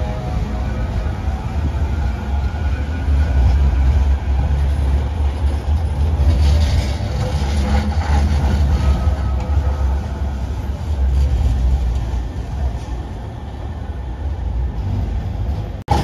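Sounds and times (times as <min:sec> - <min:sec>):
tram rattle: 0:00.0 - 0:16.0
tram rumbling past: 0:00.0 - 0:16.0.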